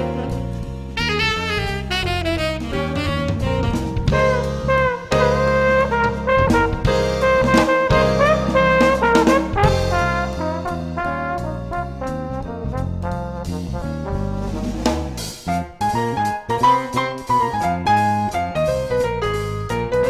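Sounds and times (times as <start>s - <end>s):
upbeat jazz with brass and drums: 0.0s - 20.0s.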